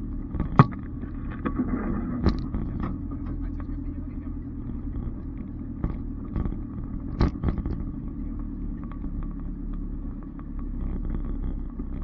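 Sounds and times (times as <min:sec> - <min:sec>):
off-road vehicle rumbling: 0:00.0 - 0:12.0.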